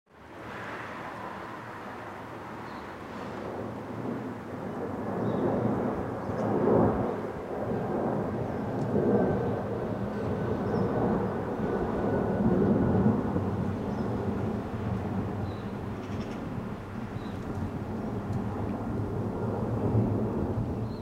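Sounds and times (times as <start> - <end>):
distant jet airliner rumble: 0.1 - 21.0.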